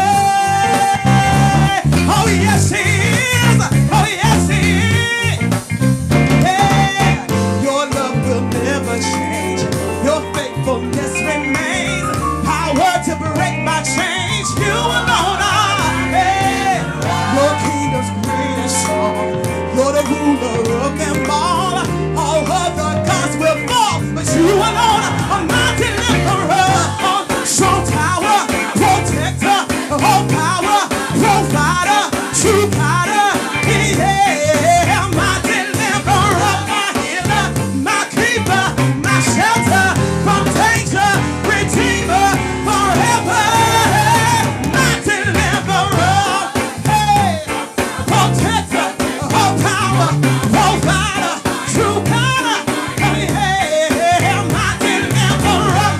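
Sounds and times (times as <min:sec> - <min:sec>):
voices singing: 0:00.0 - 0:05.4, 0:06.4 - 0:55.9
gospel band playing: 0:00.0 - 0:55.9.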